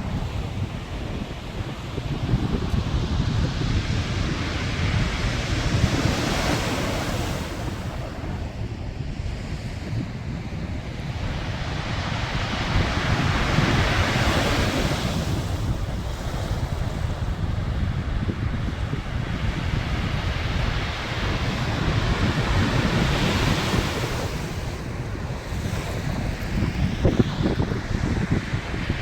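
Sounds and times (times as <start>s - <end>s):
sea waves washing: 0.0s - 29.0s
wind buffeting microphone: 0.0s - 29.0s.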